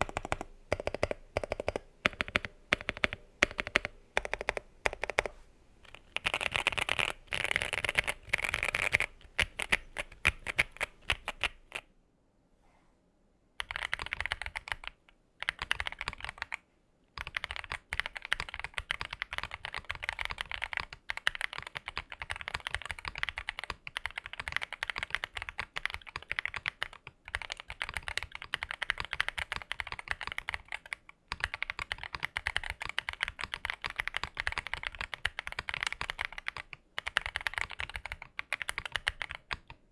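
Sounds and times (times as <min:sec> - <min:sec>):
typing on mechanical keyboard: 0:00.0 - 0:05.3, 0:05.9 - 0:11.8, 0:13.6 - 0:16.6, 0:17.2 - 0:39.8.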